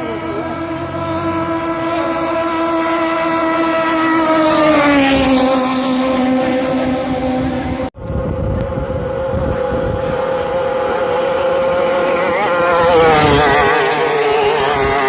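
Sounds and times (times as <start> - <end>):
racing boat engine passing: 0.0 - 15.0.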